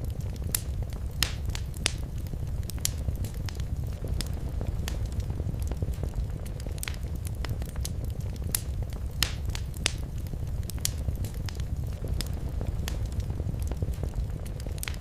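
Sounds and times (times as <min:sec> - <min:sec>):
fire pops and snaps: 0:00.0 - 0:15.0
low rumble of flames: 0:00.0 - 0:15.0.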